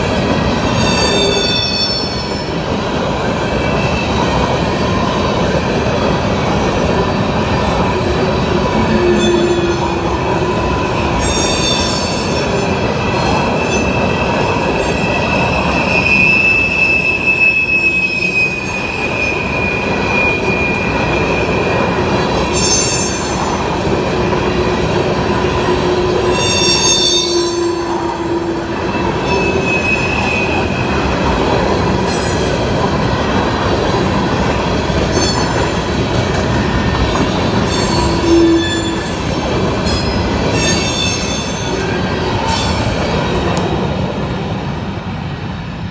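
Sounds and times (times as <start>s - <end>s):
train wheel squeals: 0.0s - 6.2s, 7.1s - 32.8s, 34.6s - 43.6s
train cars clattering: 0.0s - 44.6s
freight train rumbling past: 0.0s - 45.9s.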